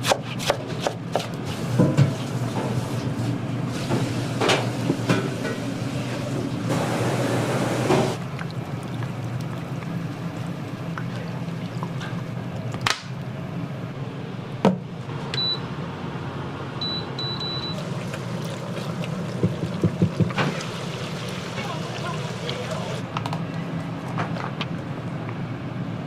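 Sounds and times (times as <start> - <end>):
kitchen background noise: 0.0 - 13.5, 17.2 - 25.0.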